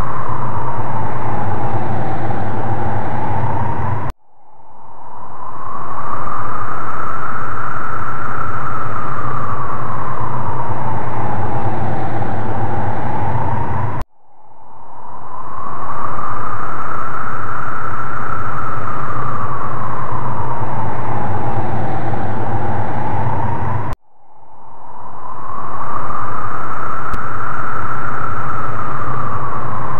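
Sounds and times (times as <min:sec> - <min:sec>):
eerie rushing noise: 0:00.0 - 0:29.9
low hum: 0:00.0 - 0:29.9
wavering whistle-like tone: 0:00.0 - 0:29.9.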